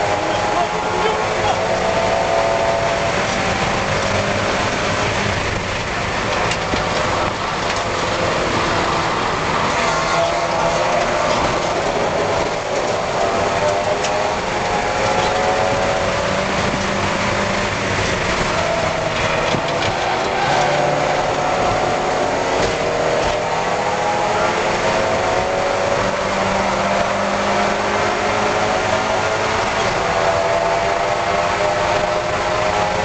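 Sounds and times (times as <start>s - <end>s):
race car engine revving: 0.0s - 33.0s
steady rush of noise: 0.0s - 33.0s.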